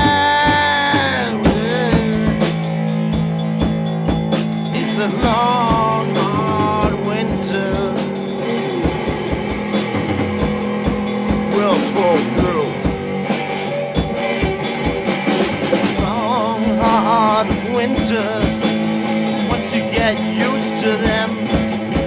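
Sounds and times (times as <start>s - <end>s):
held low bass notes: 0.0s - 22.0s
rock drum beat: 0.0s - 22.0s
pitch-bending melodic line: 0.3s - 15.4s, 16.0s - 21.9s.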